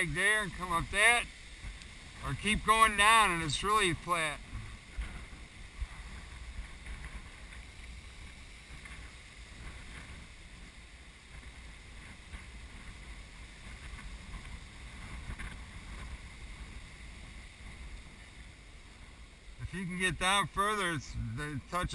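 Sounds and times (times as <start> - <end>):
wind buffeting microphone: 0.0 - 20.3.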